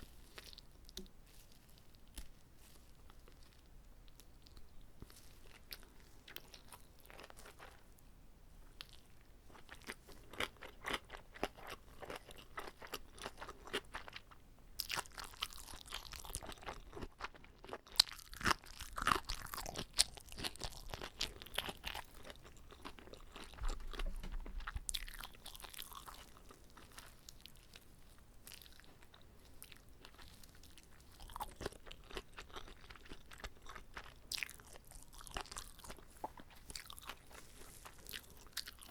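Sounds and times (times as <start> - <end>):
crunchy chewing: 0.0 - 8.0, 8.7 - 38.9.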